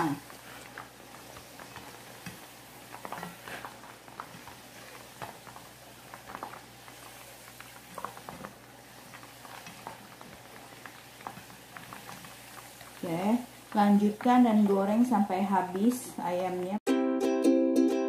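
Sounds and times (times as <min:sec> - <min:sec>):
chicken deep-frying in hot oil: 0:00.0 - 0:16.8
oil popping and crackling: 0:00.0 - 0:16.8.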